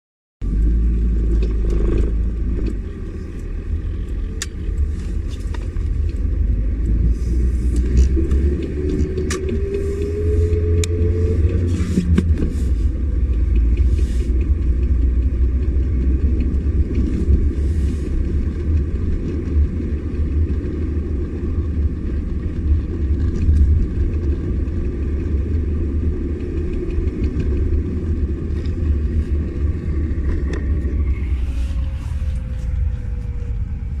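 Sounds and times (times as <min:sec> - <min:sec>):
car engine rumble: 0:00.4 - 0:34.0.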